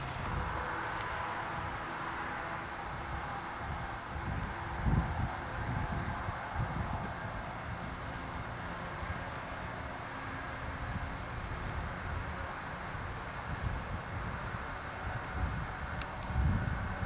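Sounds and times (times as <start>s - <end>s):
wind buffeting microphone: 0.0s - 10.0s, 10.6s - 17.0s.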